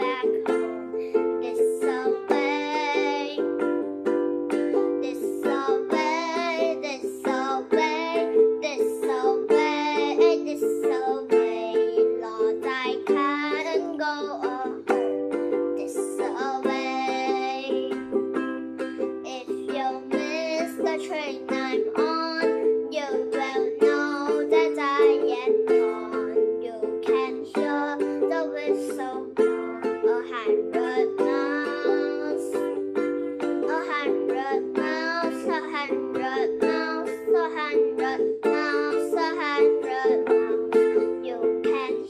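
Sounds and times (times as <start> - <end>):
child singing: 0.0 - 18.3, 19.2 - 42.0
ukulele strummed chords: 0.0 - 42.0.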